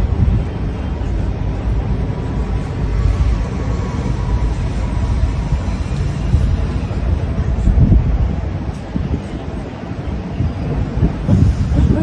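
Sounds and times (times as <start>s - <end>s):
distant traffic rumble: 0.0s - 12.0s
wind buffeting microphone: 0.0s - 12.0s.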